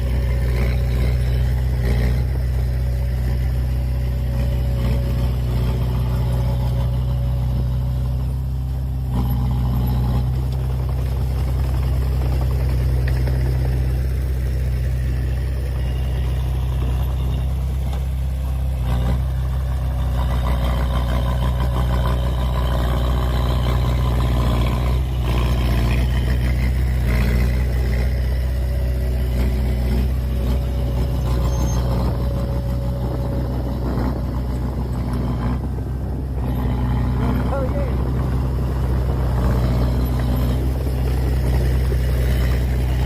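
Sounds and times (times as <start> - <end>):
heavy diesel engine droning: 0.0 - 43.0.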